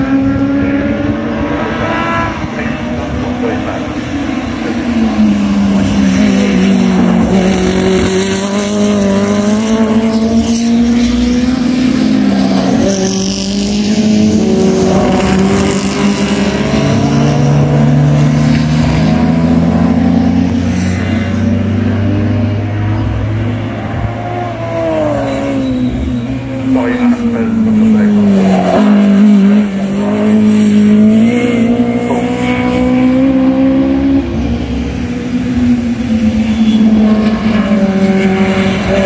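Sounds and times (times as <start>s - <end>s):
racing cars passing: 0.0s - 39.0s.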